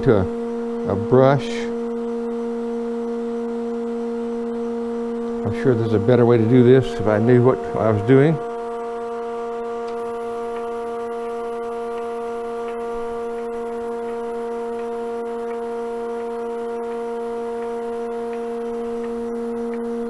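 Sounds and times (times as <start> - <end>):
wood lathe humming: 0.0 - 20.0.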